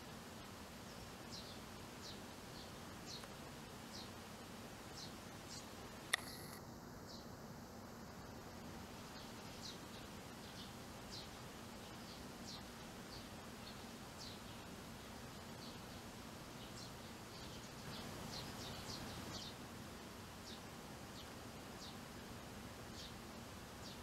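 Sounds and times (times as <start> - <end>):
steady low hum: 0.0 - 24.0
sparrows chirping: 0.8 - 4.2, 4.8 - 6.5, 9.0 - 19.7, 20.3 - 24.0.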